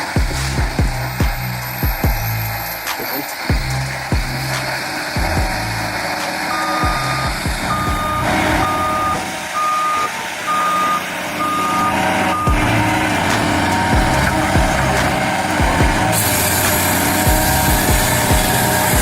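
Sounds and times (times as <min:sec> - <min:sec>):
machine engine running: 0:00.0 - 0:19.0
reversing alarm beeping: 0:00.0 - 0:19.0.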